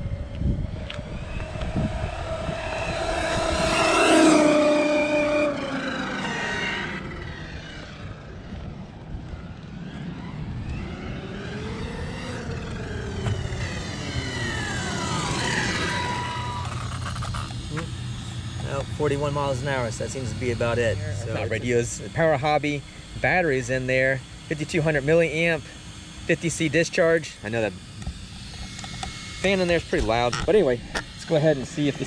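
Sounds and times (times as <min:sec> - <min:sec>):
rc truck motor whine: 0:00.0 - 0:32.0.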